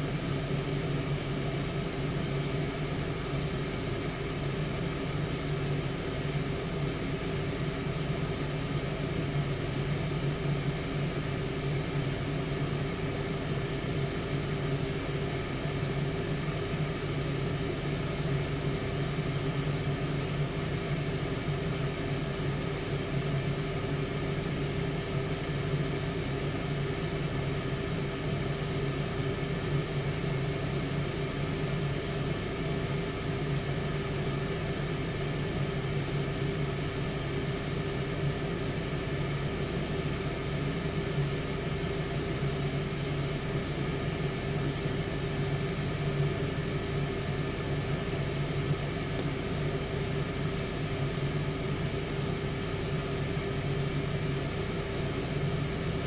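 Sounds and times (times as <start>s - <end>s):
air fryer fan humming: 0.0s - 56.0s.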